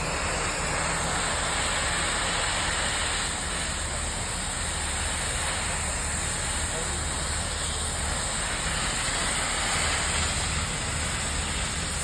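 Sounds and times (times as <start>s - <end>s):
gas cutting torch roaring: 0.0s - 12.0s.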